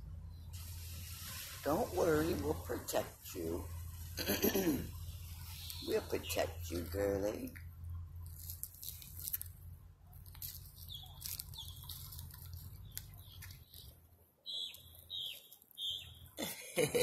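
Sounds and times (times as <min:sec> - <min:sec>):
birds chirping: 0:00.0 - 0:17.0
low steady hum: 0:00.0 - 0:17.0.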